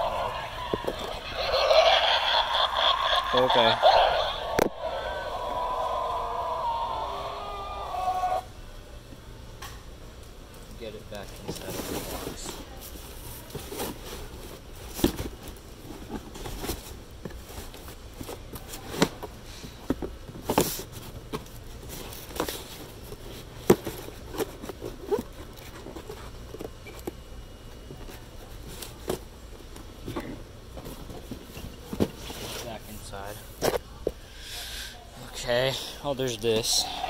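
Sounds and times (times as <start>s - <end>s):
low store hum: 0.0s - 37.0s.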